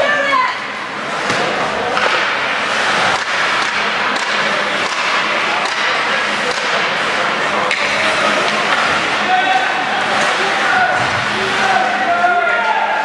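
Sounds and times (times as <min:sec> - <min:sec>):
spectators' voices: 0:00.0 - 0:13.0
skates on ice: 0:00.2 - 0:13.0
hockey sticks and puck clacking: 0:00.5 - 0:13.0.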